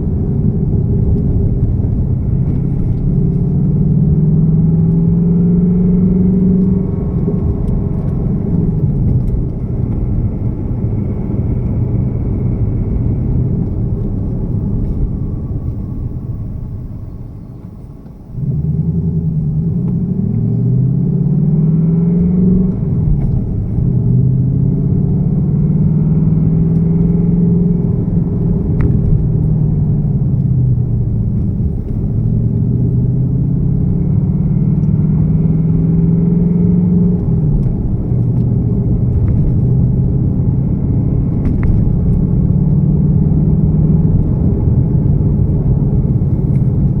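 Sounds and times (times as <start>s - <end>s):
engine rattle: 0.0s - 5.0s, 6.2s - 20.6s, 22.6s - 25.4s, 28.0s - 35.0s, 37.1s - 47.0s
car engine idling: 0.0s - 21.3s, 28.0s - 35.0s, 37.1s - 47.0s
car engine starting: 0.0s - 47.0s.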